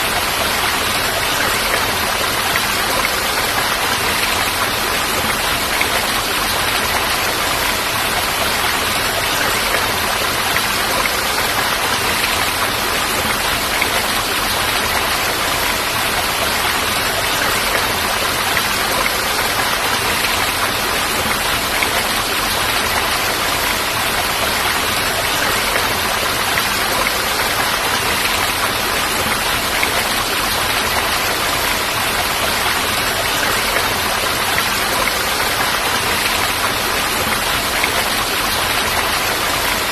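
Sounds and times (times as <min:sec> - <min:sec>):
falling water rushing: 0:00.0 - 0:39.9.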